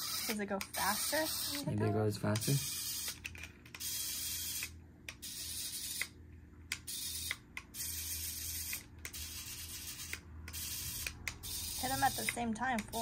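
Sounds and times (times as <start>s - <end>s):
tiny electric motors whirring: 0.0s - 13.0s.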